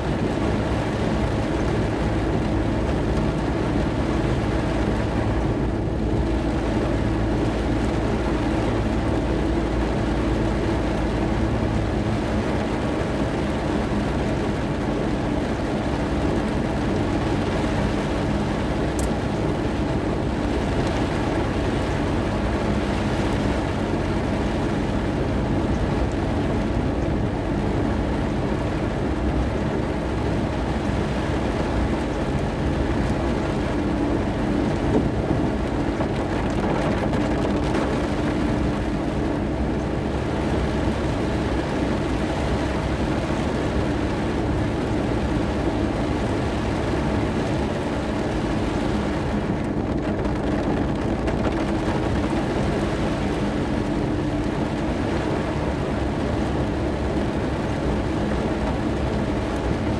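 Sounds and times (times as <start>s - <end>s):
car running hum: 0.0s - 59.9s
heavy rain on car roof: 0.0s - 59.9s.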